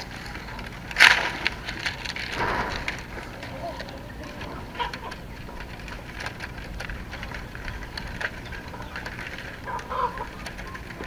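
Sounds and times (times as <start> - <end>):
bamboo strips clicking and scraping: 0.0 - 11.0
steady low background noise: 0.0 - 11.0.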